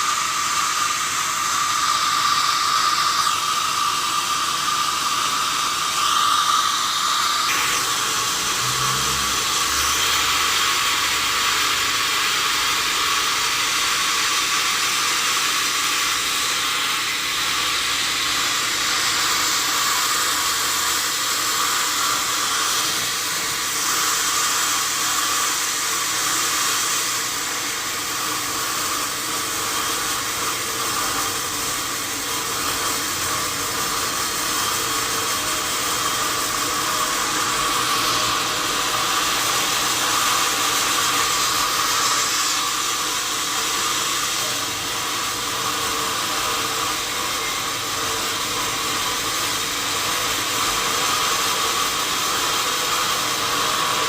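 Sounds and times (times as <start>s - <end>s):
sawmill saw whirring: 0.0s - 54.0s.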